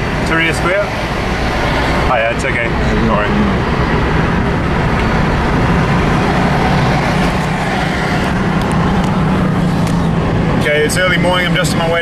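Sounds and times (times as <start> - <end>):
car engine hum: 0.0 - 12.0
tyre and road noise: 0.0 - 12.0.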